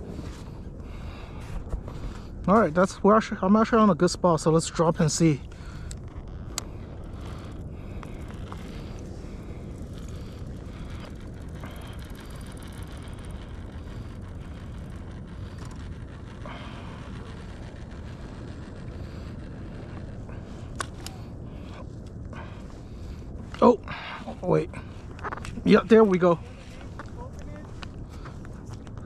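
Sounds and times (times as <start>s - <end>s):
wind rumble: 0.0s - 29.0s
water around kayak: 5.4s - 29.0s.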